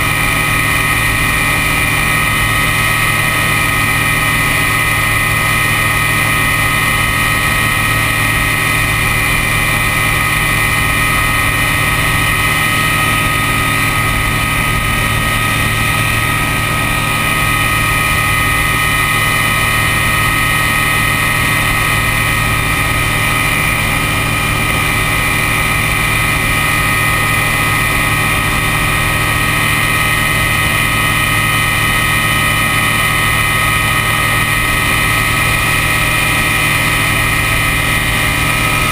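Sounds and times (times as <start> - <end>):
light aircraft engine drone: 0.0 - 38.9
rushing wind: 0.0 - 38.9.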